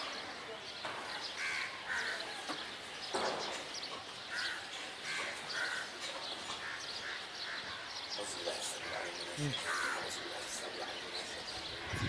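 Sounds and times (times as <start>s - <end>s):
birds calling: 0.0s - 12.0s
faint bird chirps: 0.0s - 12.0s.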